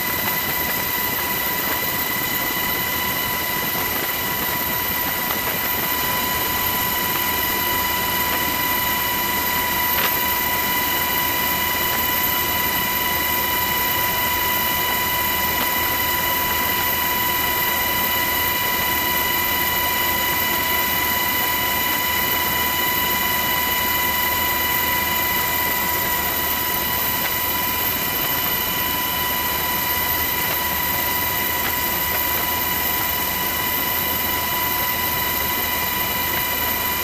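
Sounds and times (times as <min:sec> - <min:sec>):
aircraft turbine engines roaring: 0:00.0 - 0:37.0.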